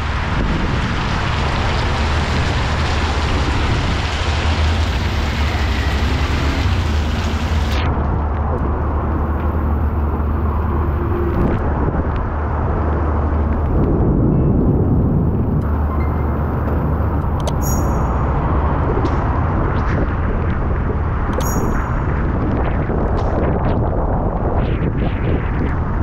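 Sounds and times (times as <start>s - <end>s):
heavy rain on street and awning: 0.0s - 24.5s.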